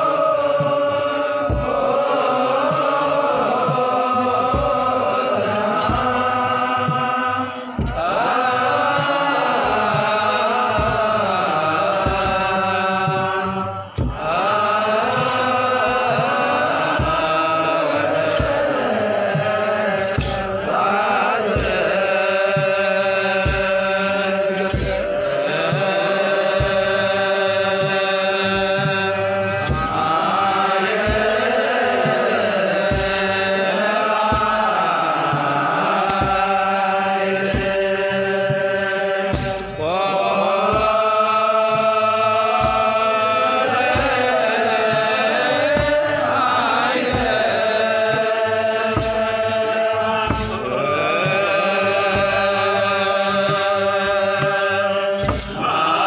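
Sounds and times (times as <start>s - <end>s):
clergy chanting in unison: 0.0s - 56.0s
drum beat: 0.0s - 56.0s
sistrums rattling: 0.0s - 56.0s.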